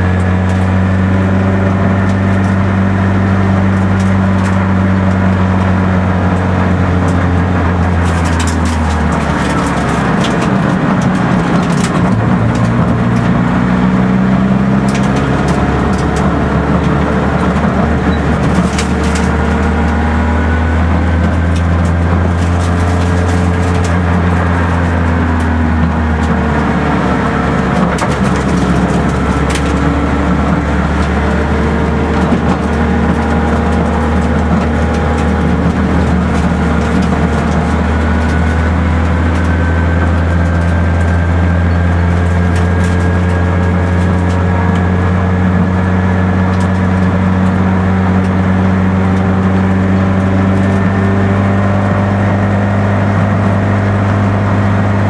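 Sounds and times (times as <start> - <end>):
car engine running hard: 0.0 - 55.0.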